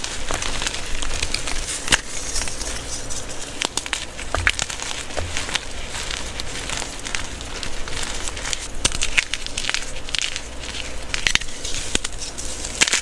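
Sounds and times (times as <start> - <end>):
chalk crushed by hand: 0.0 - 13.0.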